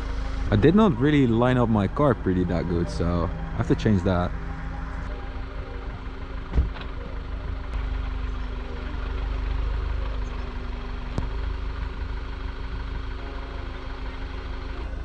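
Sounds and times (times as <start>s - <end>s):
car engine idling and creeping: 0.0s - 15.0s.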